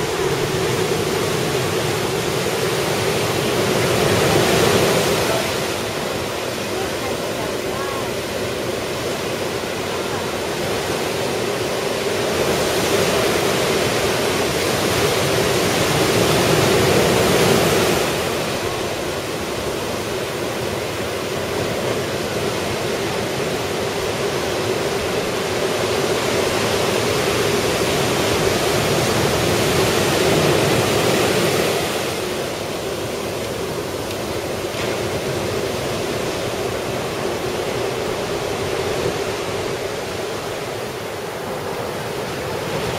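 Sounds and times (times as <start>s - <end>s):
ocean surf breaking: 0.0s - 42.9s
waves crashing: 0.0s - 42.9s.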